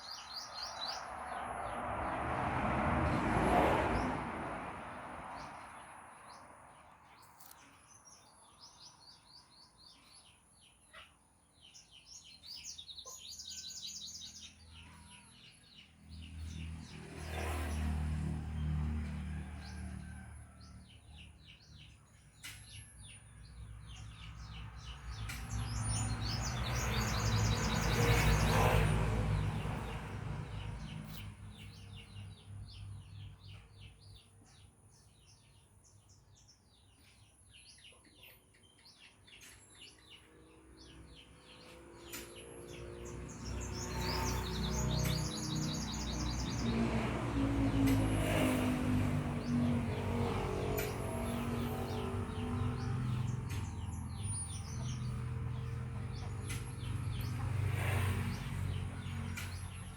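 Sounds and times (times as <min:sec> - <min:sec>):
birds chirping and trilling: 0:00.0 - 0:01.8, 0:05.3 - 0:18.8, 0:19.6 - 0:59.9.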